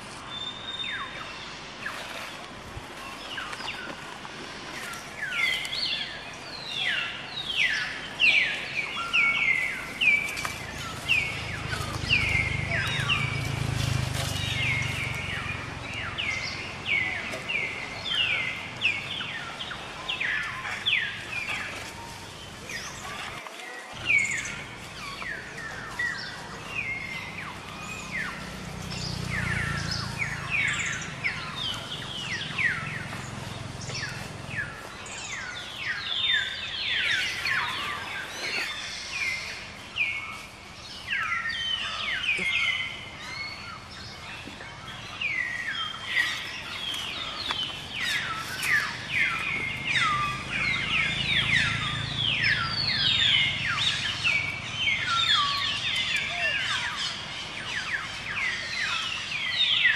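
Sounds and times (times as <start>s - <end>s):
many birds chirping: 0.0s - 59.9s.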